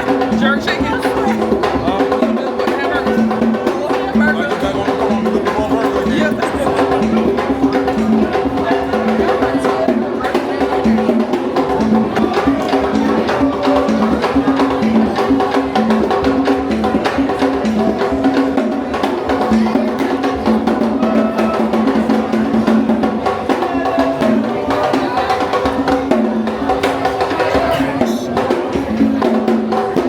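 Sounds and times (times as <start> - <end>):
upbeat percussion music: 0.0 - 30.0.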